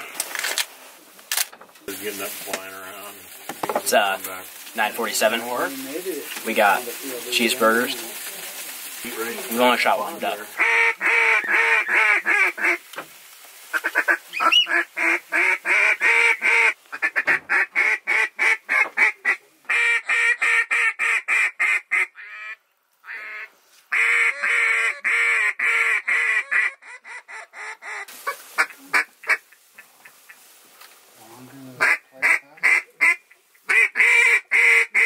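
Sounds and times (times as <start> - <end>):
waterfowl honking and clucking: 1.9 - 13.1, 13.7 - 30.5, 31.5 - 35.0.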